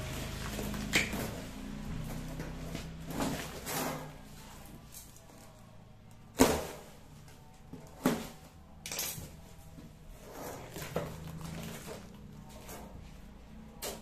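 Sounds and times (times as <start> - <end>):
packaging rustling and scraping: 0.0 - 5.8, 6.4 - 14.0.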